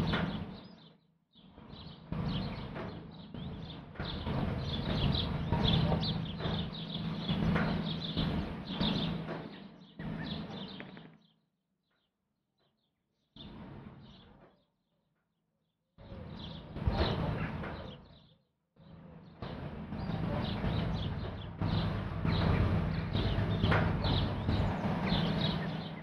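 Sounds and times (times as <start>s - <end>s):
steady low hum: 0.0s - 11.3s, 16.0s - 26.0s.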